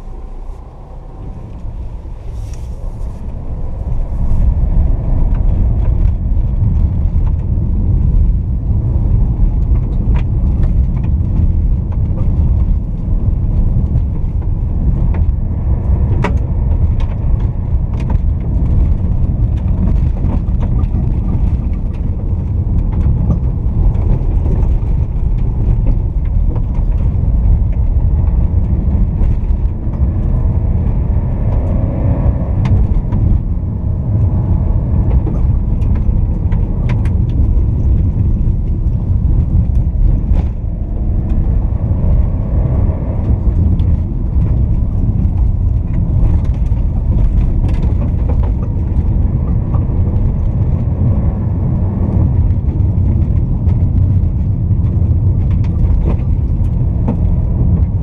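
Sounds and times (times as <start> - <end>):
diesel engine running: 0.0 - 58.0
tyres rumbling on dirt road: 0.0 - 58.0.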